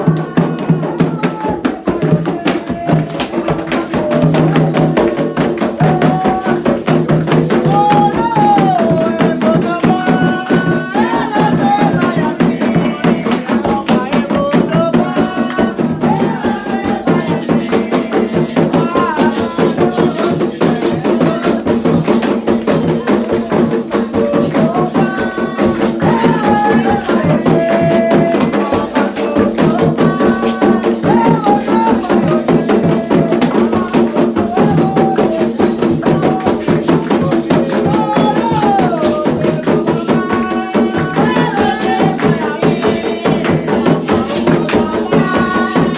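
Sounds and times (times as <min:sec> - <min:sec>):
hand drums and percussion: 0:00.0 - 0:45.9
voices singing a chant: 0:00.0 - 0:45.9.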